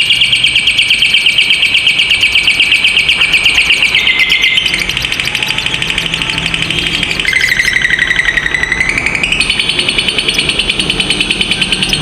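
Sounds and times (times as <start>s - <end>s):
bird chattering trill: 0.0s - 12.0s.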